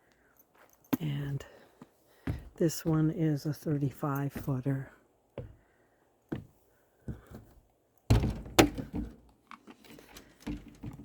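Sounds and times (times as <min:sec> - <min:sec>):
footsteps climbing steps: 0:00.6 - 0:03.2, 0:03.8 - 0:09.3, 0:09.9 - 0:11.0.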